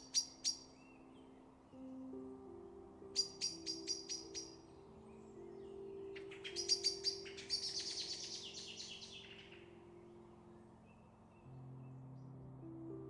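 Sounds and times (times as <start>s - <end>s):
soft background music: 0.0s - 13.0s
songbird chirping: 0.0s - 13.0s.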